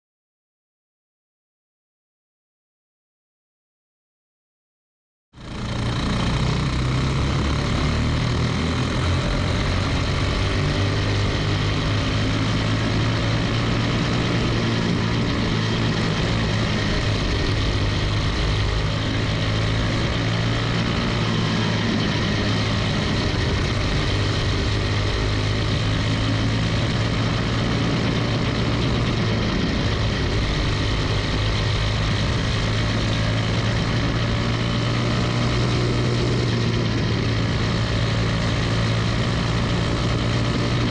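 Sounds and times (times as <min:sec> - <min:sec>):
kart engine at full throttle: 0:05.4 - 0:40.9
other kart engines: 0:05.4 - 0:40.9.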